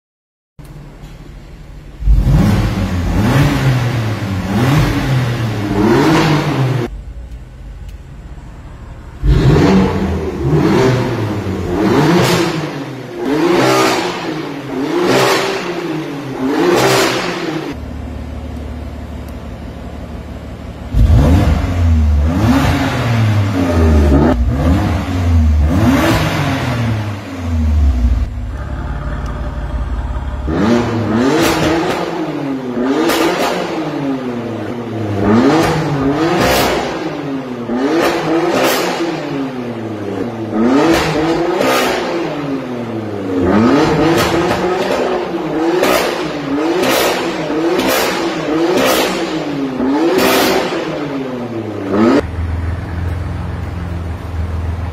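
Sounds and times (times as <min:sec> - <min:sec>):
car engine revving: 0:00.6 - 0:54.9.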